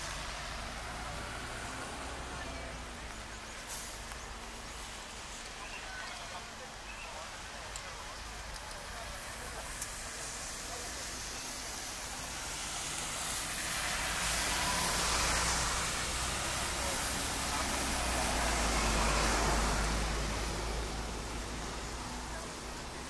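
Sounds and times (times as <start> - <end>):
tyres hissing on wet road: 0.0 - 23.0.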